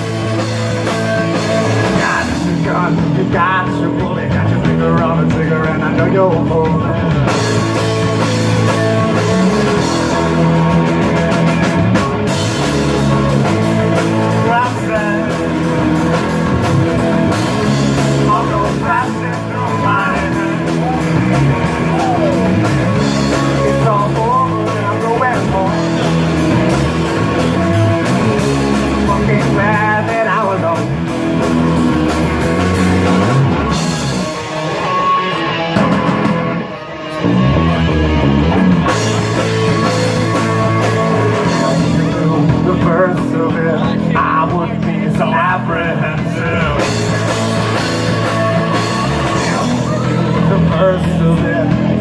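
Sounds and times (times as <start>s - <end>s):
bending lead guitar lines: 0.0s - 52.0s
rock band playing instrumental: 0.0s - 52.0s.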